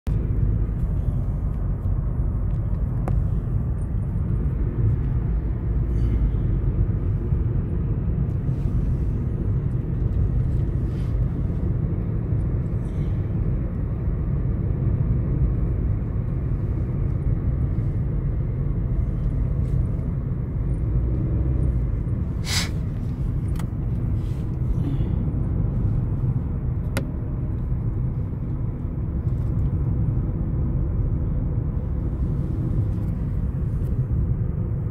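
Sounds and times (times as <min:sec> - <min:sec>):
car road and engine rumble: 0:00.0 - 0:34.9.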